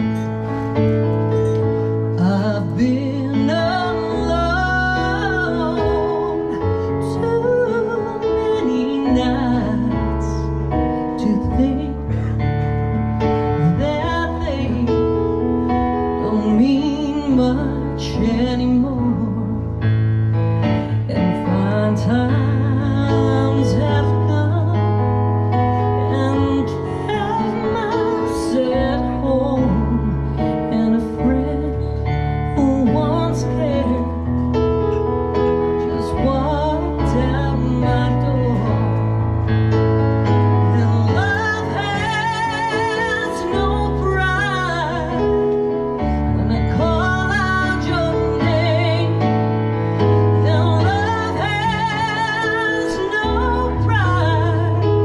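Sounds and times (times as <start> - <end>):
instrumental accompaniment: 0.0 - 55.0
woman singing with vibrato: 2.1 - 12.5, 13.4 - 15.4, 16.1 - 19.7, 21.0 - 25.2, 26.0 - 34.4, 35.9 - 39.0, 40.6 - 45.4, 46.1 - 49.4, 50.0 - 55.0.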